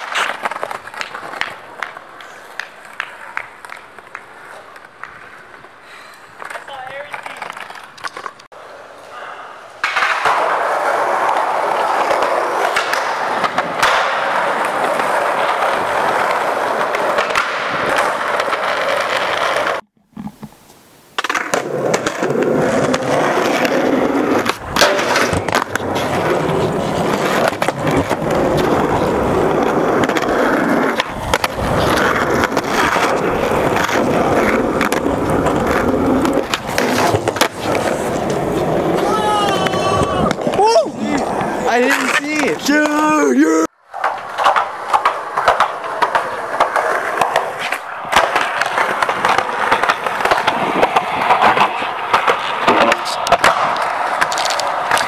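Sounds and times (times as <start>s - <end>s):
skateboard clacks: 0.0s - 20.5s, 21.2s - 55.0s
skateboard wheels rolling on concrete: 0.0s - 55.0s.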